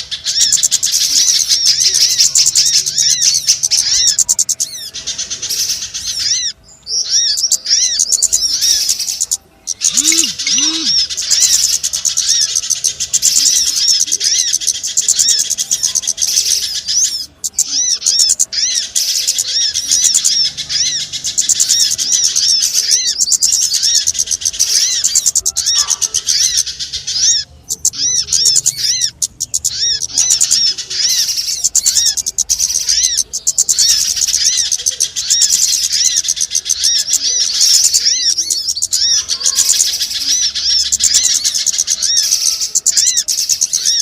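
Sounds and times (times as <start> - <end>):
small birds chirping rapidly: 0.0 - 44.0.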